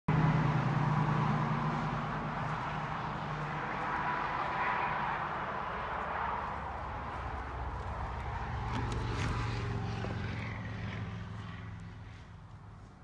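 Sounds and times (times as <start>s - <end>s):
distant engine hum: 0.1s - 13.0s
outdoor background noise: 0.1s - 13.0s.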